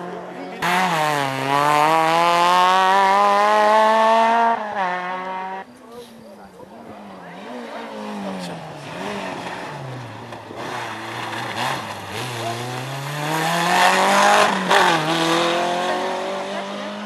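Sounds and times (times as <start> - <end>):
rally car engine accelerating: 0.0 - 5.7, 6.9 - 17.0.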